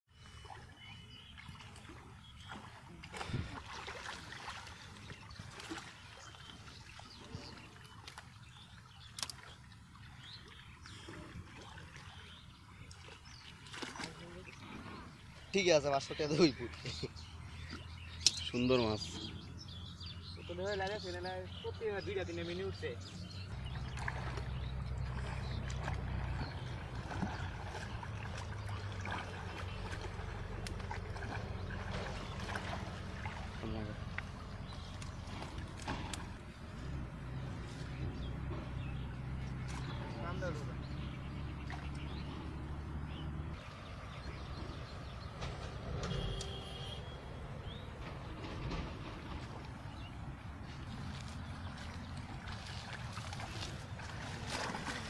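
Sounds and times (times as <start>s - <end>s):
river water sloshing and splashing: 0.1s - 55.0s.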